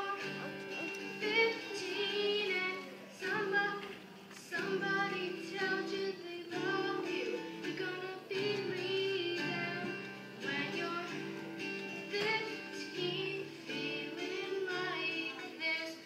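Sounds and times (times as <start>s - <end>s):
acoustic guitar: 0.0s - 16.0s
girl singing a pop-country song: 0.0s - 16.0s.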